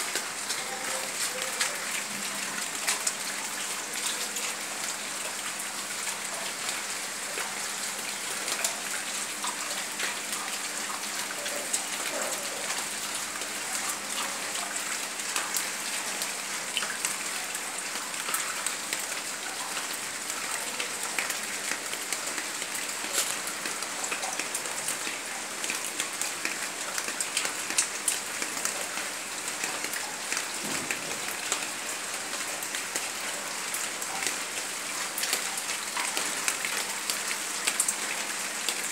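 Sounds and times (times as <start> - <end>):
heavy rain on plants: 0.0 - 38.9.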